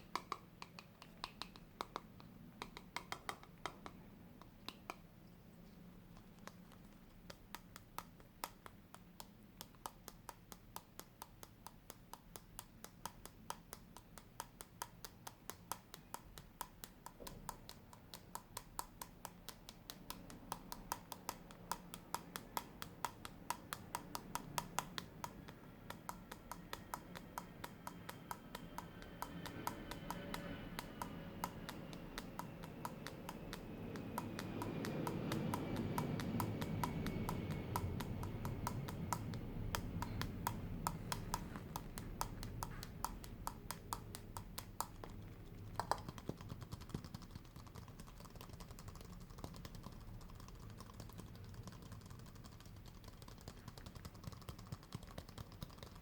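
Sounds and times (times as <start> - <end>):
low background sound: 0.0 - 56.0.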